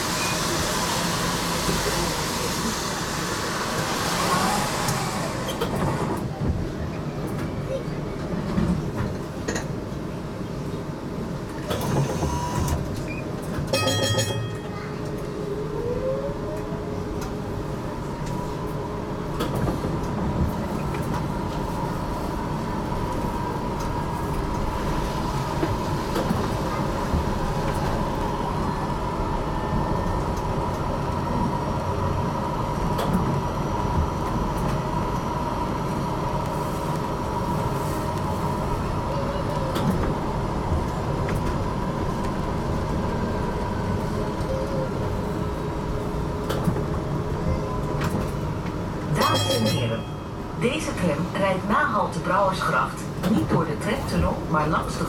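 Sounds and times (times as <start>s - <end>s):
tram wheel and rail rumble: 0.0s - 55.0s.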